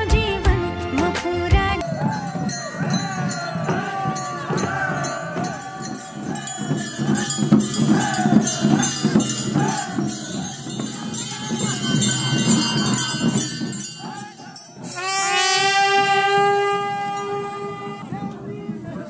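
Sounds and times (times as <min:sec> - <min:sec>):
crowd voices: 0:01.7 - 0:19.0
small bells jingling: 0:01.8 - 0:18.8.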